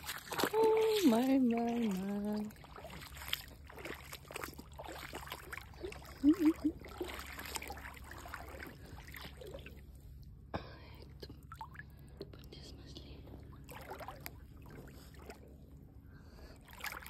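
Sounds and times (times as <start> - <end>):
small splashes and clicks in water: 0.0 - 10.3, 11.0 - 15.5, 16.6 - 17.0
river water trickling and sloshing: 0.0 - 17.0.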